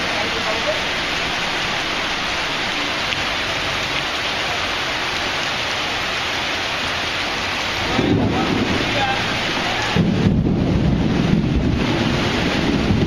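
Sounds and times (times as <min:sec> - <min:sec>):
heavy rain on a street: 0:00.0 - 0:13.0.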